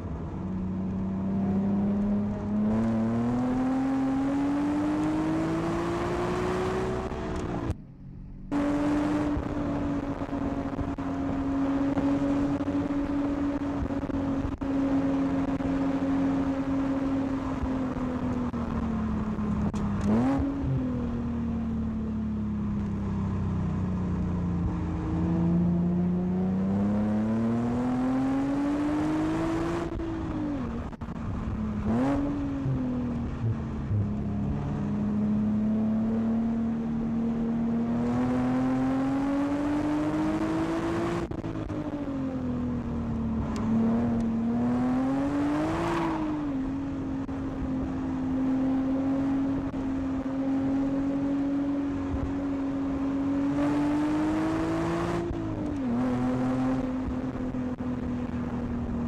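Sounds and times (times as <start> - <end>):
car engine revving: 0.0 - 59.0
road rumble: 0.0 - 59.0.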